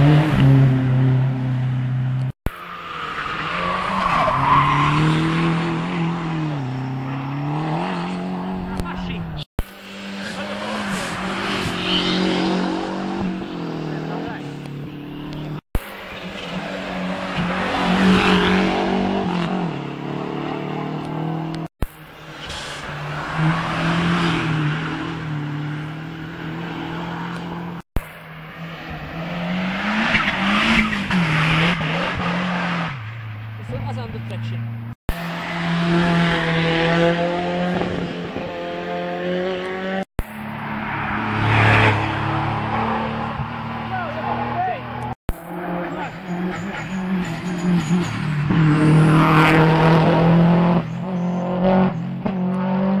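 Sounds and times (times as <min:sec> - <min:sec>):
race car engines at high revs: 0:00.0 - 0:53.0.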